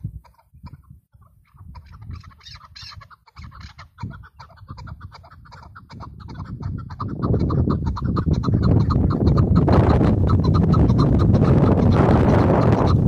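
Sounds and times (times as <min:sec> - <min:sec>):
partridge calling: 0:00.2 - 0:13.0.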